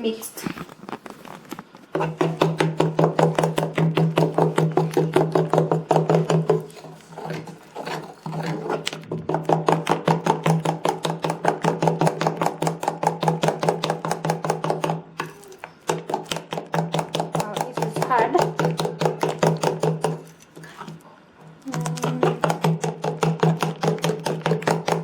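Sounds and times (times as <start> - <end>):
batter stirred in a bowl: 0.0 - 25.0.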